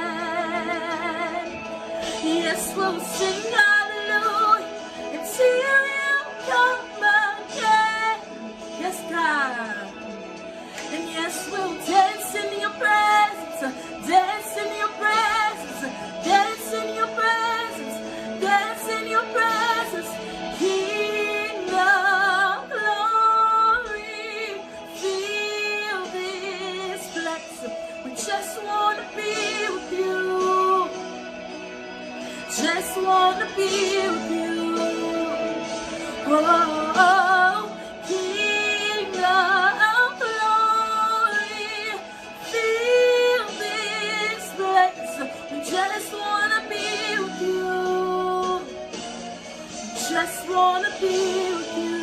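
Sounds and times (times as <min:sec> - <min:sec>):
woman singing with vibrato: 0:00.0 - 0:10.0, 0:10.7 - 0:31.2, 0:32.2 - 0:48.9, 0:49.9 - 0:52.0.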